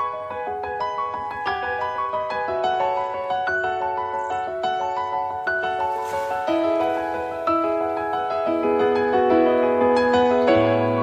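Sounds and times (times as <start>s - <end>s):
light piano melody: 0.0s - 11.0s.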